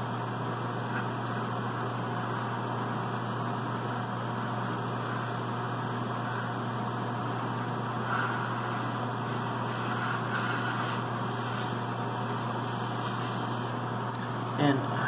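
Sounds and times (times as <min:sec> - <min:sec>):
airbrush air hiss: 0:00.0 - 0:13.7
constant low hum: 0:00.0 - 0:15.0.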